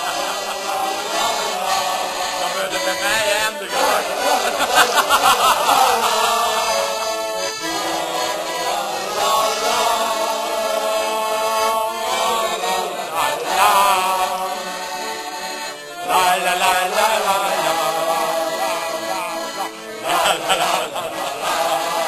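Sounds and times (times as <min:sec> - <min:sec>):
group of voices chanting: 0:00.0 - 0:22.0
music: 0:00.0 - 0:22.0.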